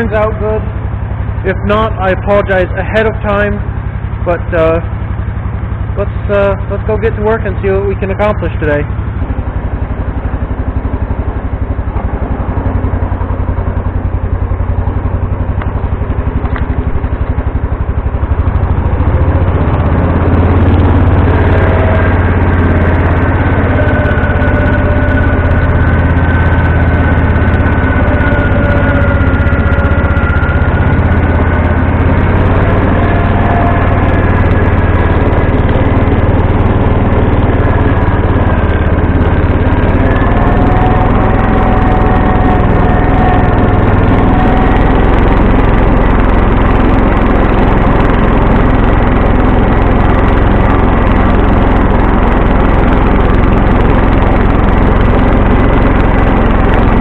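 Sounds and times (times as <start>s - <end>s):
garden tractor engine running: 0.0s - 57.0s
wavering whine: 0.0s - 57.0s.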